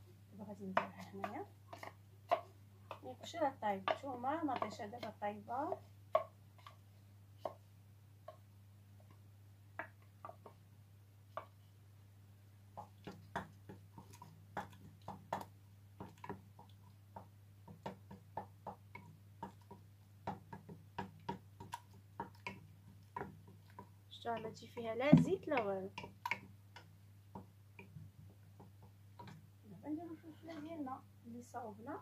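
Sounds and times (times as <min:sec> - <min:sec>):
wooden spoon knocking on pot: 0:00.7 - 0:06.8, 0:07.4 - 0:07.6, 0:08.2 - 0:10.6, 0:12.7 - 0:31.0.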